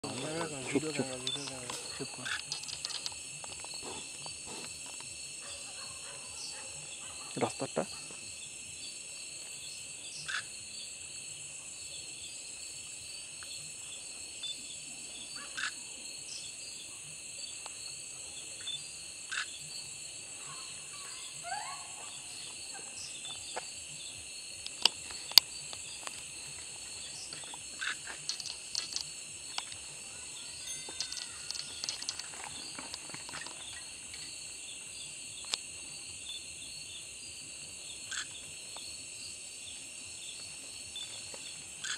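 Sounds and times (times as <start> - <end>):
crickets and insects trilling: 0.0 - 41.9.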